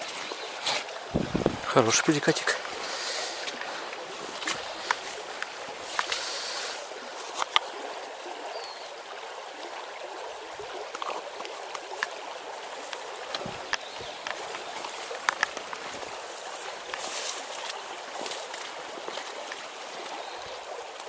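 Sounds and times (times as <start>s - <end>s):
river water rushing over stones: 0.0s - 21.0s.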